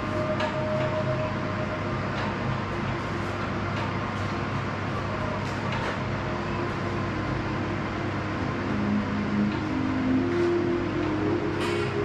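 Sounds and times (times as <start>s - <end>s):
constant whir: 0.0s - 12.0s.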